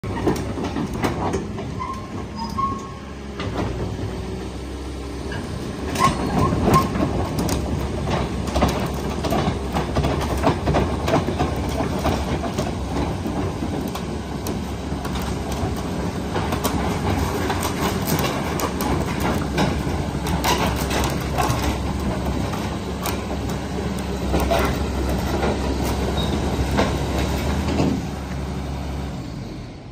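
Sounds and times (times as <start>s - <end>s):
diesel machinery humming: 0.0s - 29.9s.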